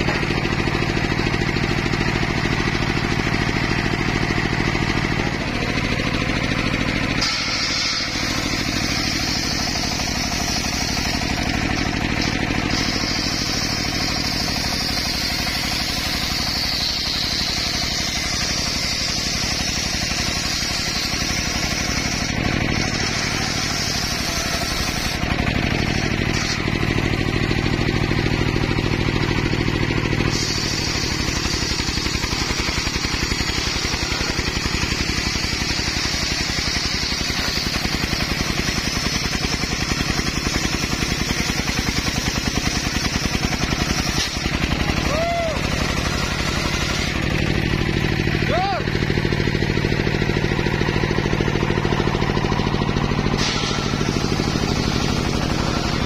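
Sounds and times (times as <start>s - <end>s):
saw blade cutting wood: 0.0s - 48.3s, 50.5s - 56.0s
saw engine running: 0.0s - 56.0s.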